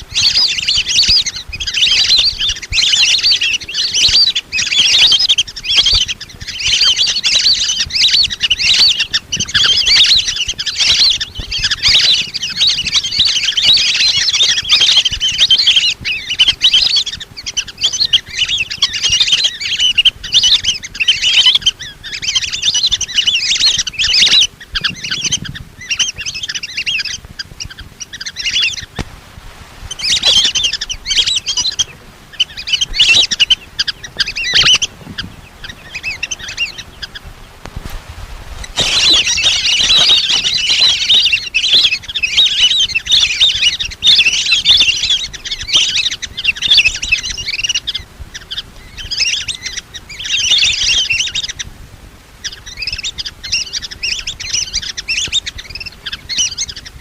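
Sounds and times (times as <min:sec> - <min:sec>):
ducks whistling calls: 0:00.0 - 0:29.1, 0:29.7 - 0:51.7, 0:52.3 - 0:57.0.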